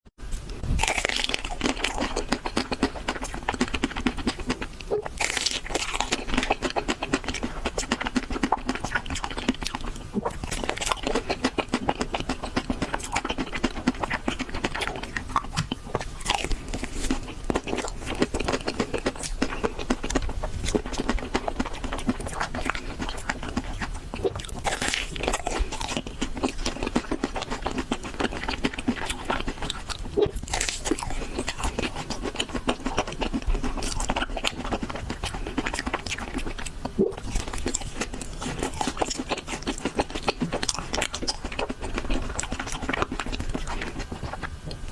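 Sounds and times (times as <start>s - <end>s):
crunchy biting and chewing: 0.3s - 44.9s.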